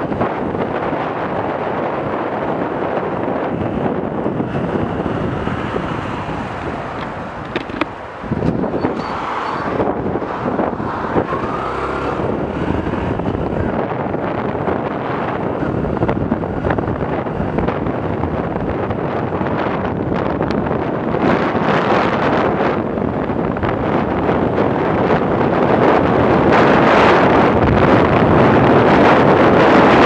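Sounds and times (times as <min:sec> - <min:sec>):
motorcycle engine accelerating: 0:00.0 - 0:30.0
wind noise on microphone: 0:00.0 - 0:30.0.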